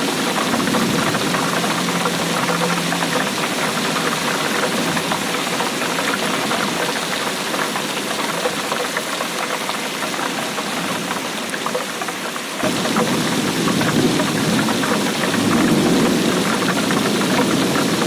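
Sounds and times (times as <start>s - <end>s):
heavy rainfall: 0.0s - 18.0s.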